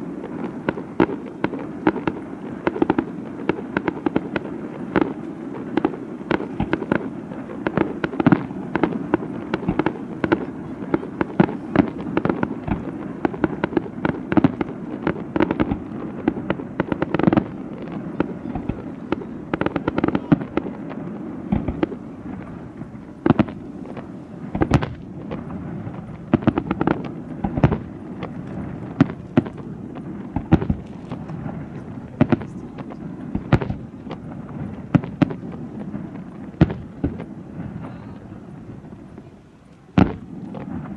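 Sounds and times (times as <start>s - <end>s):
fireworks bangs and booms: 0.0s - 40.9s
fireworks crackling: 0.0s - 40.9s.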